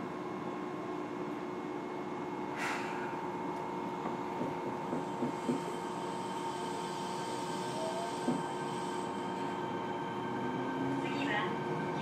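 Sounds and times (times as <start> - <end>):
train ride rumbling: 2.2 - 12.0.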